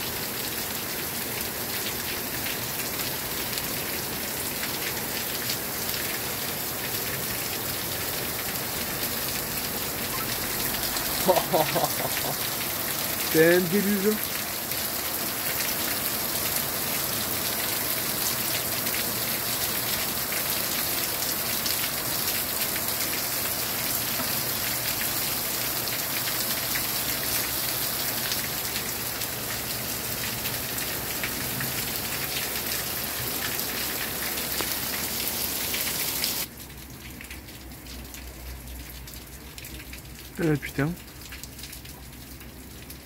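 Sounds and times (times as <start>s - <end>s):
heavy rain pouring: 0.0s - 43.0s
raindrops ticking close by: 0.1s - 43.0s.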